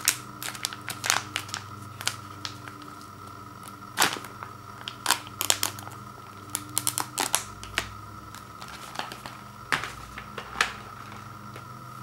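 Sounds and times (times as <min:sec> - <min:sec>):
plastic pouch crinkling: 0:00.0 - 0:11.3.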